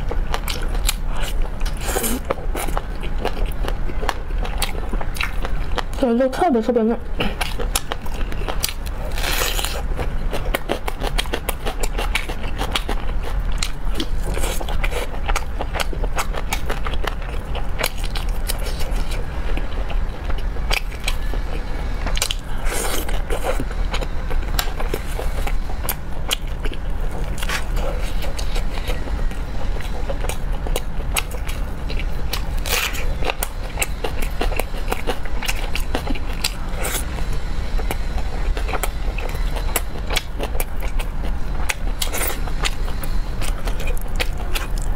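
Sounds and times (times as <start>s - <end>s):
chewing meat: 0.0s - 6.2s, 7.1s - 44.9s
steady low hum: 0.0s - 44.9s.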